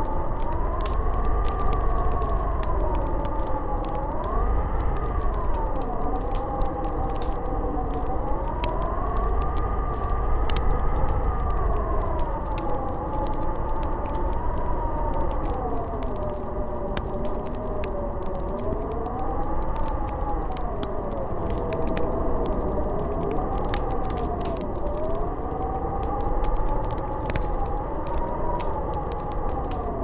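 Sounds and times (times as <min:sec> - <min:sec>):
crackling clicks: 0:00.0 - 0:30.0
snowstorm wind howling: 0:00.0 - 0:30.0.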